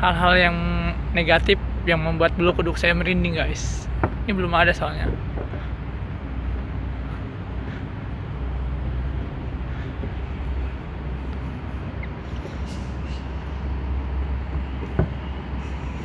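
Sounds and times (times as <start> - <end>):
low machine rumble: 0.0 - 16.0.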